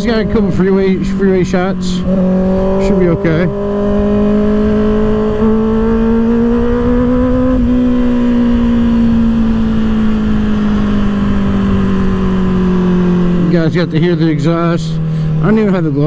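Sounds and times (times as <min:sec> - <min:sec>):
low wind rush: 0:00.0 - 0:16.0
motorcycle engine at high revs: 0:00.0 - 0:16.0.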